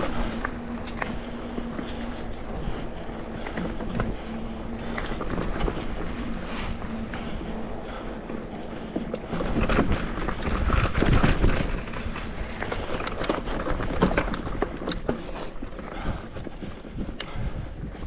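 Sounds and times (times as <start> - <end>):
bike rattling over bumps: 0.0 - 18.0
wind rumbling on microphone: 0.0 - 18.0.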